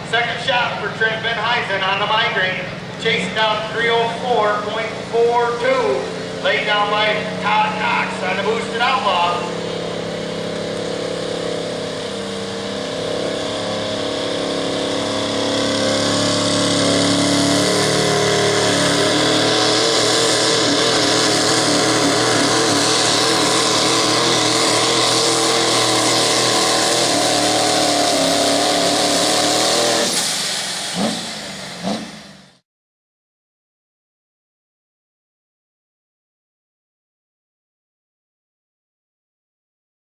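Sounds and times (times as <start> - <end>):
diesel truck engine under load: 0.0 - 32.6.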